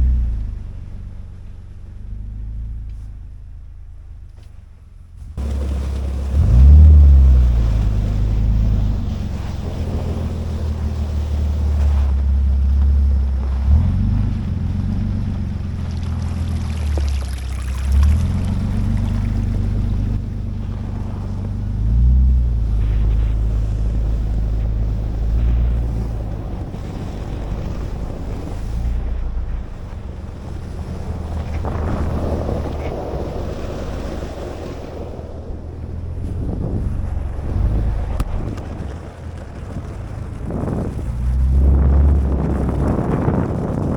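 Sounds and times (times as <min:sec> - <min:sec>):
truck engine rumble: 0:00.0 - 0:43.9
wind and road noise: 0:00.0 - 0:43.9.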